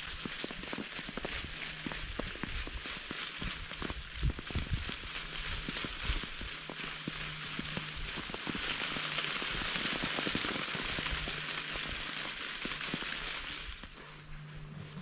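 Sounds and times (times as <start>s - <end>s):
berries pattering on tarp: 0.0s - 15.0s
leaves rustling: 0.0s - 15.0s.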